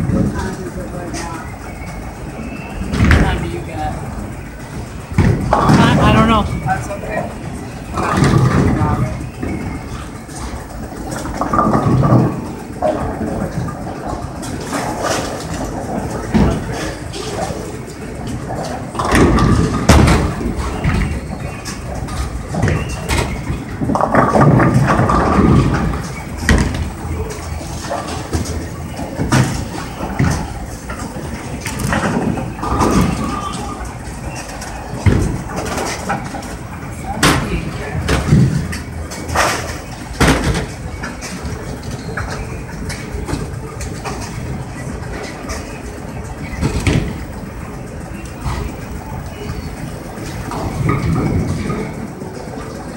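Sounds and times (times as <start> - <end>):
bowling balls rolling: 0.0 - 52.9
bowling pins crashing: 1.9 - 52.9.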